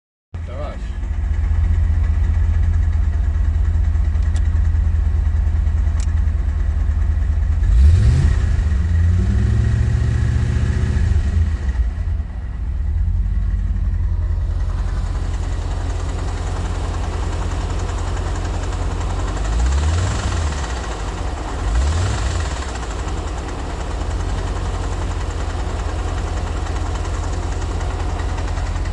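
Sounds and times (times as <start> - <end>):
car engine idling and revving: 0.4 - 28.9.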